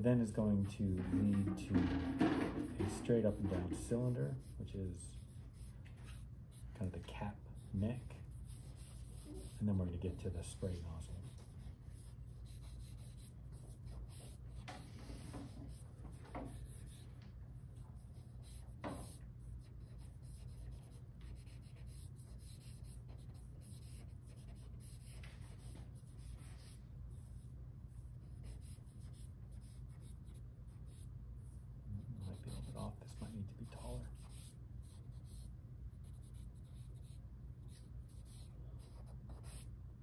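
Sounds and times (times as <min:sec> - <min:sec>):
low steady hum: 0:00.0 - 0:40.0
drawing stick scratching paper: 0:00.4 - 0:17.1, 0:18.0 - 0:27.3, 0:28.0 - 0:31.1, 0:32.0 - 0:39.7.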